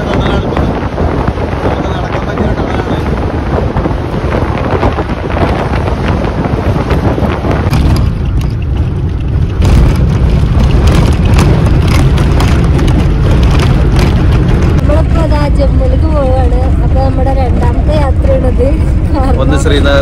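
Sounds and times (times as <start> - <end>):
road and engine rumble: 0.0 - 20.0
wind buffeting microphone: 0.0 - 20.0.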